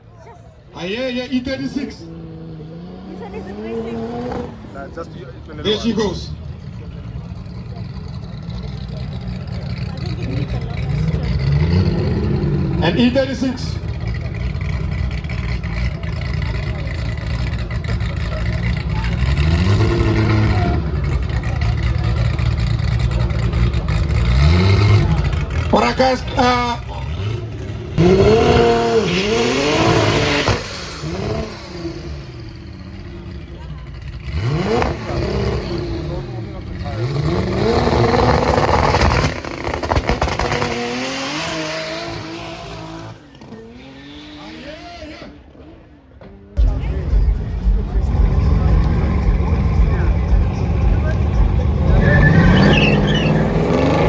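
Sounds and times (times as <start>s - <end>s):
road and wind noise: 0.0s - 54.0s
car engine accelerating: 1.3s - 54.0s.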